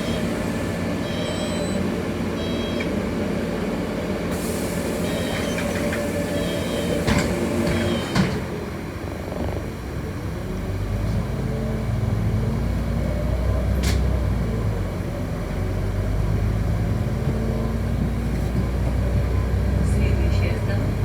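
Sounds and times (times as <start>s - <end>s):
bus drivetrain hum: 0.0s - 21.0s.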